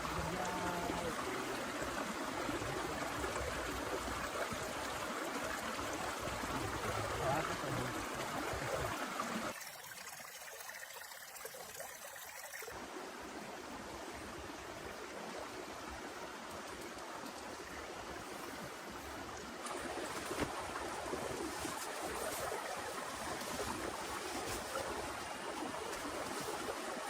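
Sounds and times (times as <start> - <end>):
water rushing like heavy rain: 0.0 - 27.0.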